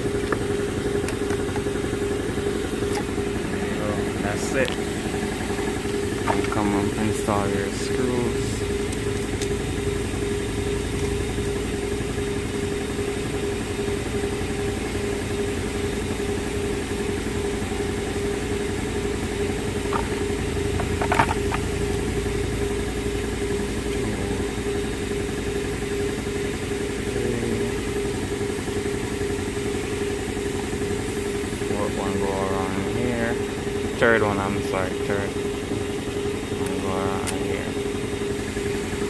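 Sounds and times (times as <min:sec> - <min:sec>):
machine hum: 0:00.0 - 0:39.0.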